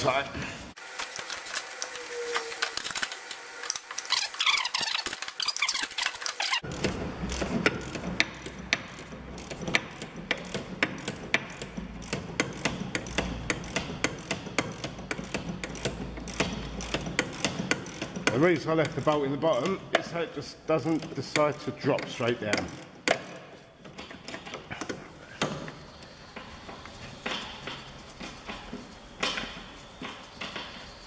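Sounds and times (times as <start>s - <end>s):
ratchet clicking: 1.0s - 31.0s.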